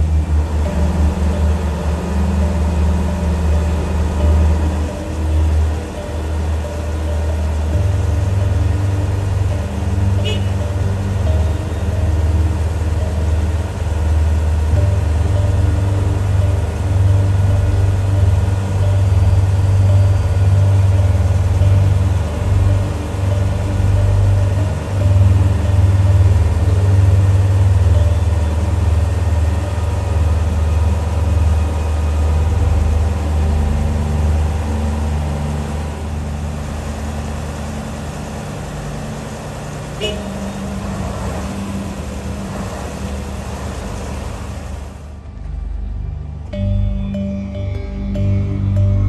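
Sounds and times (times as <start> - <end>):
heavy diesel engine droning: 0.0 - 49.0.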